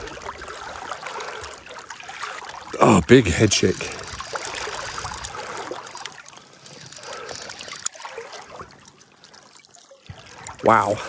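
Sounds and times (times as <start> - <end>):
river water lapping: 0.0 - 11.0.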